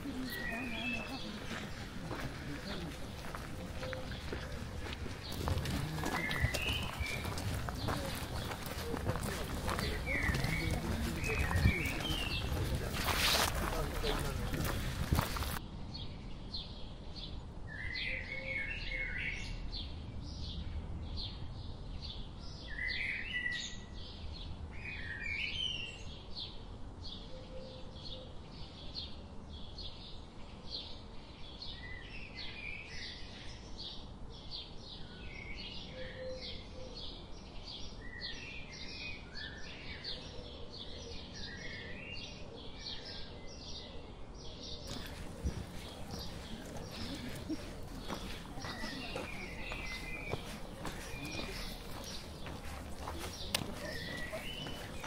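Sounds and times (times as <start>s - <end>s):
lower twittering bird calls: 0.0s - 55.0s.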